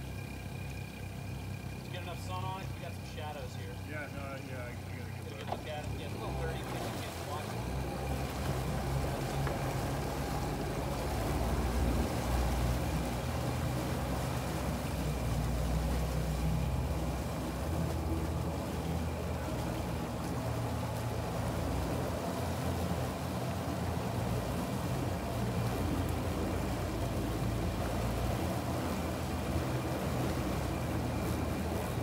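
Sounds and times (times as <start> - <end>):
outboard motors humming: 0.0 - 32.0
propeller wash churning water: 0.0 - 32.0.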